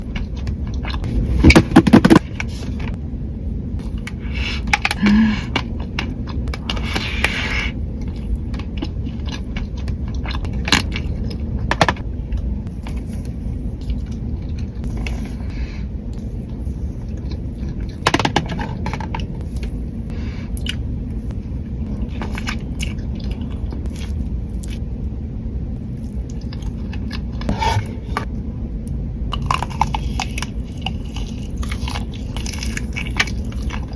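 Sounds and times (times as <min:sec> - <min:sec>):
low hum: 0:00.0 - 0:33.9.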